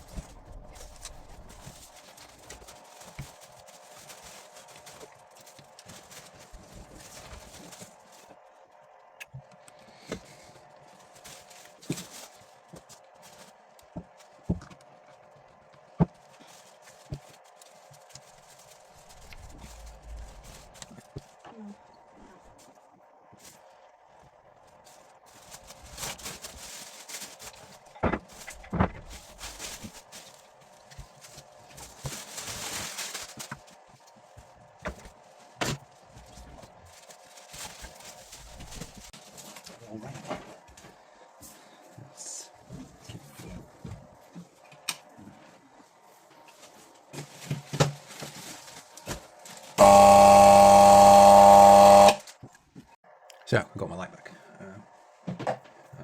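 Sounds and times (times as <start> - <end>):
faint steady hum: 0.0 - 47.6, 48.3 - 56.0.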